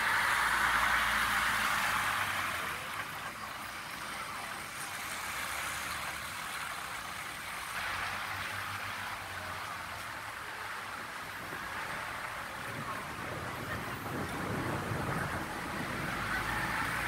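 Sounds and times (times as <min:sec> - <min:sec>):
rain on wet road: 0:00.0 - 0:17.0
tyres hissing through water: 0:00.0 - 0:17.0
vehicle engine humming: 0:00.0 - 0:17.0.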